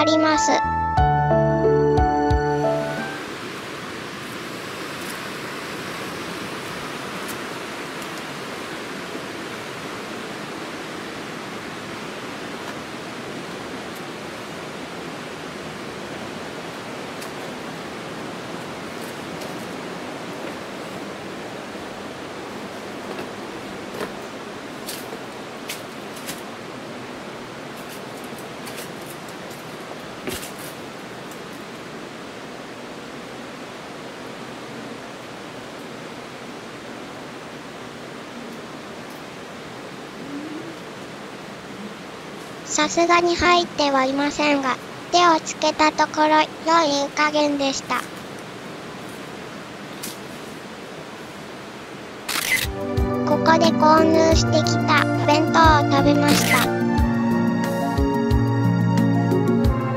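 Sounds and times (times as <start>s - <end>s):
river rushing over rocks: 3.1s - 52.3s.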